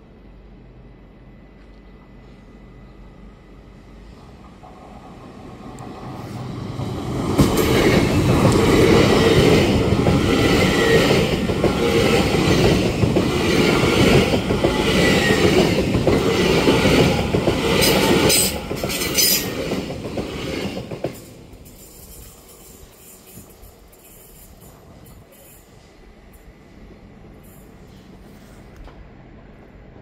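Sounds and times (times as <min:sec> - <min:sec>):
electric train passing at speed: 0:00.0 - 0:30.0.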